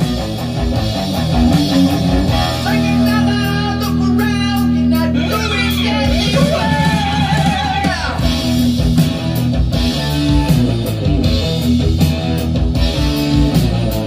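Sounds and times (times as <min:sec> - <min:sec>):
loud rock music with electric guitar: 0:00.0 - 0:14.0.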